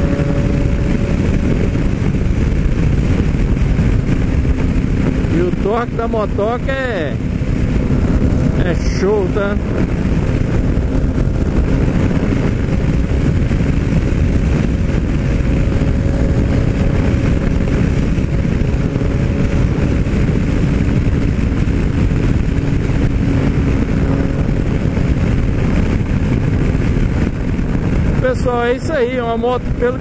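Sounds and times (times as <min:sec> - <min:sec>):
motorcycle engine running: 0:00.0 - 0:30.0
wind rush on microphone: 0:00.0 - 0:30.0.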